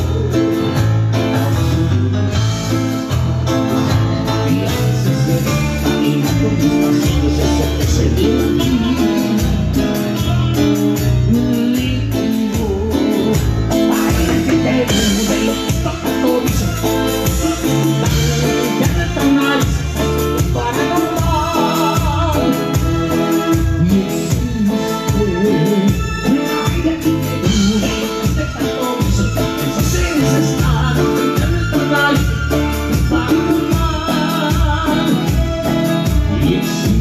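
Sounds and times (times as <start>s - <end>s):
guitar: 0.0s - 37.0s
person singing: 0.0s - 37.0s.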